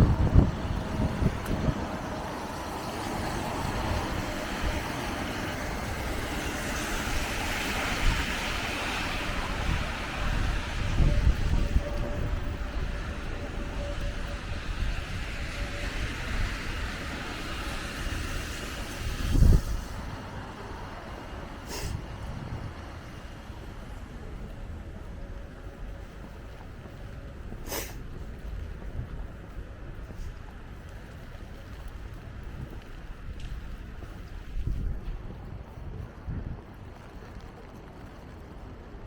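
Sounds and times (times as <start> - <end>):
traffic going by: 0.0 - 39.0
wind gusting on microphone: 0.0 - 39.0.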